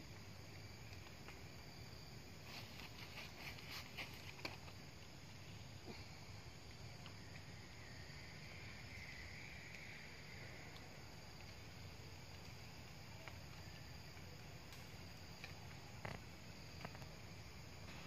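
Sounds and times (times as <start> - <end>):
insect hum: 0.0 - 18.0.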